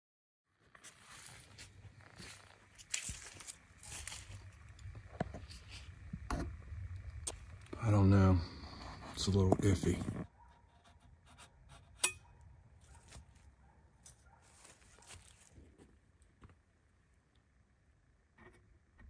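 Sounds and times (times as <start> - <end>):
low outdoor rumble: 0.6 - 19.0.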